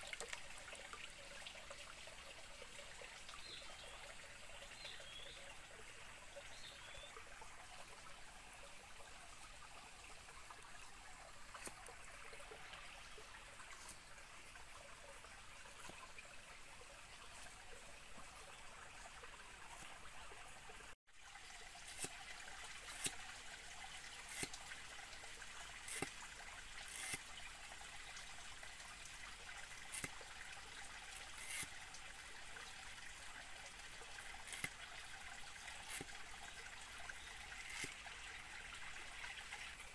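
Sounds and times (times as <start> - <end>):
water trickling over rocks: 0.0 - 39.9.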